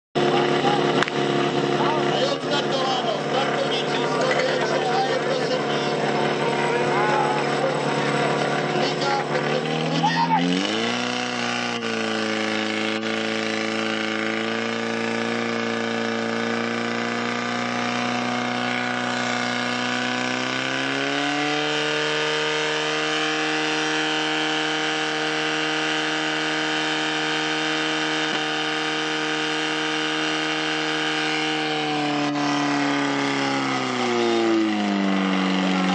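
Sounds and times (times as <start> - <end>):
fire pump engine running: 0.2 - 35.9.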